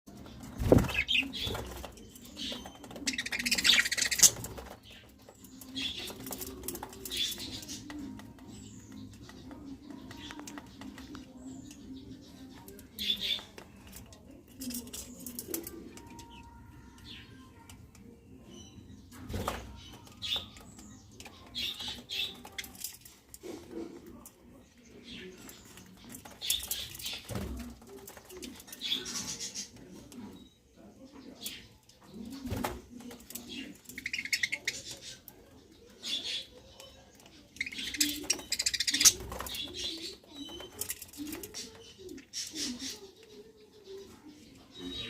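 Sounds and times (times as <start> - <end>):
budgerigars chirping and chattering: 0.1 - 45.0.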